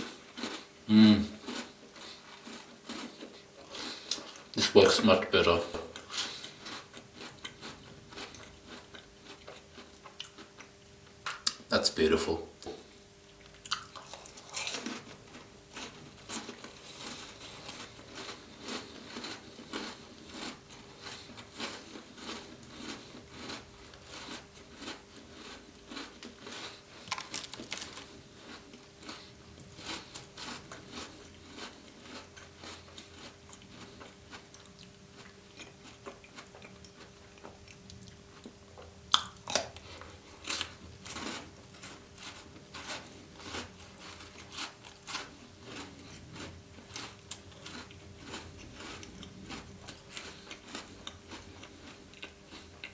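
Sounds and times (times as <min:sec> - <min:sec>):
crunching chocolate biscuits: 0:00.0 - 0:11.8, 0:13.4 - 0:52.9.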